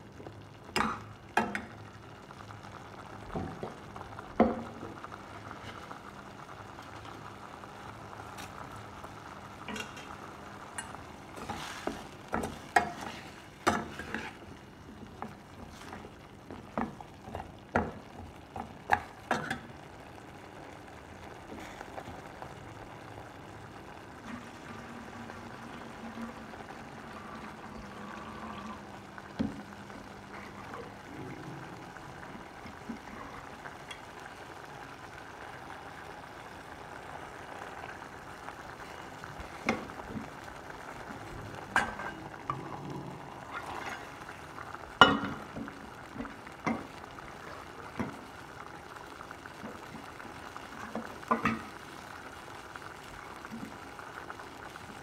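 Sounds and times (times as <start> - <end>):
gravy bubbling and sizzling: 0.0 - 55.0.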